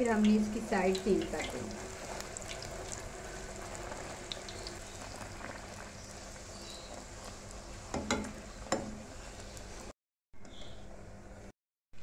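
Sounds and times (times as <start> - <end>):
deep-frying sizzle with crackles: 0.0 - 10.0.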